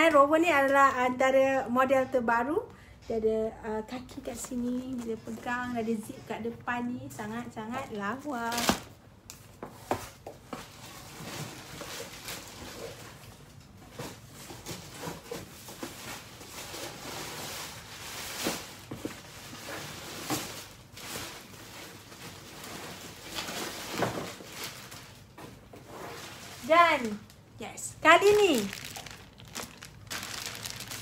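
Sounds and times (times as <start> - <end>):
plastic rustling and crinkling: 3.9 - 31.0.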